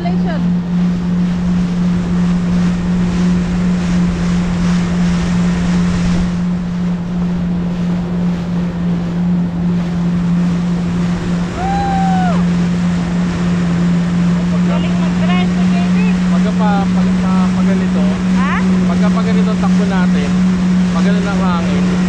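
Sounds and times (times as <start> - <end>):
jet ski engine droning: 0.0 - 22.0
water rushing: 0.0 - 22.0.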